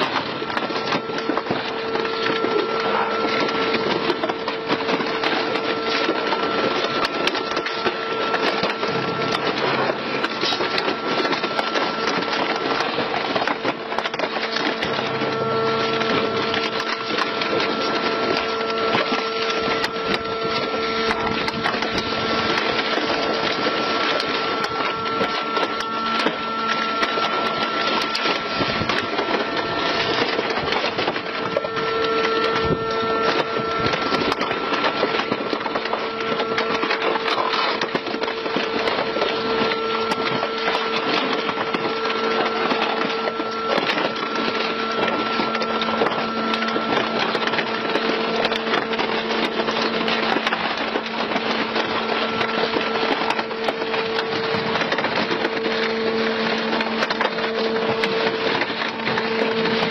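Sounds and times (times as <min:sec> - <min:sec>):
shredder crunching metal: 0:00.0 - 0:59.9
steady machine hum: 0:00.0 - 0:59.9.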